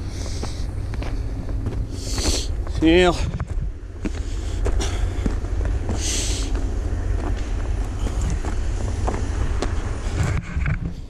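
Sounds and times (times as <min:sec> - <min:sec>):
footsteps crunching on gravel: 0:00.0 - 0:10.6
low rumble: 0:00.0 - 0:11.0.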